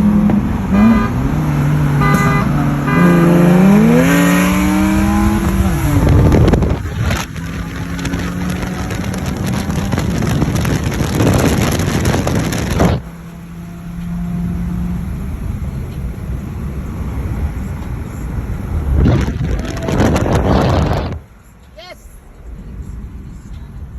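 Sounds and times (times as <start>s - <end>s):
wind noise: 0.0s - 13.3s, 14.4s - 21.4s
car engine accelerating: 0.0s - 21.5s.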